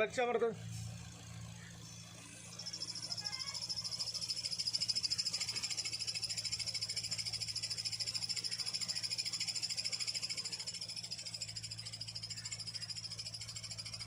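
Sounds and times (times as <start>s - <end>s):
engine idling hum: 0.0s - 14.0s
high-pitched bearing chirping: 1.9s - 14.0s.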